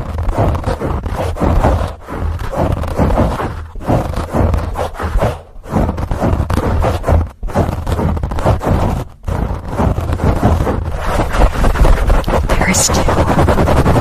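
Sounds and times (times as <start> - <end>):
microphone being scratched: 0.0 - 14.0.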